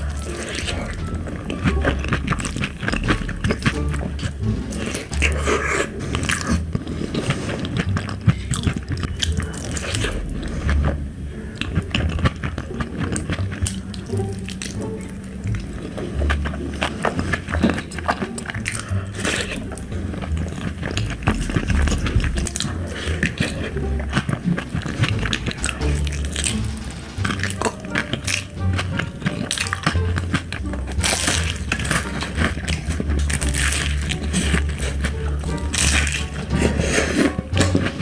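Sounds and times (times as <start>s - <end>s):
person chewing wet food: 0.0s - 38.0s.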